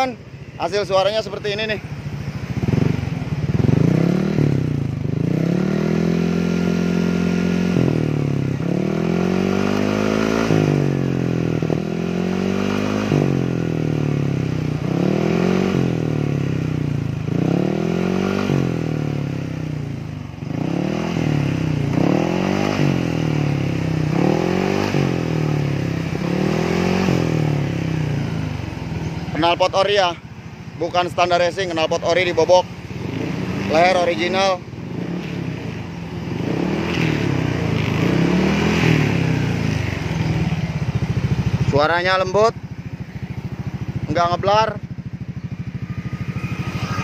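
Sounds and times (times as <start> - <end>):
scooter engine revving: 0.0 - 47.0.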